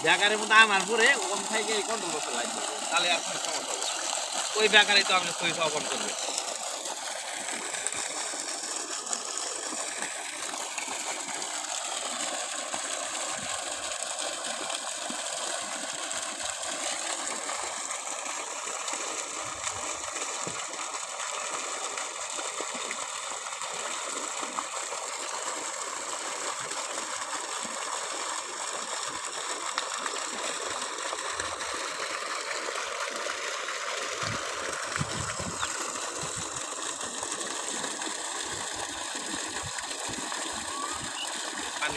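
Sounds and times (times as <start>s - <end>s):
water gushing from pipe: 0.0s - 41.9s.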